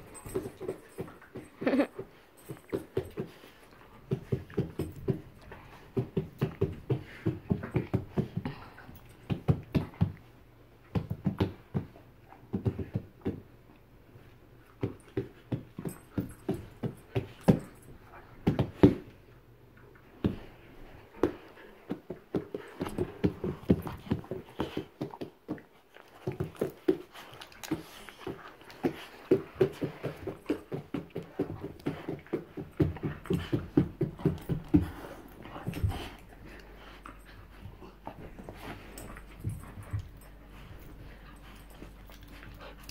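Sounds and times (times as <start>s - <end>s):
dogs play-fighting: 0.0s - 42.9s.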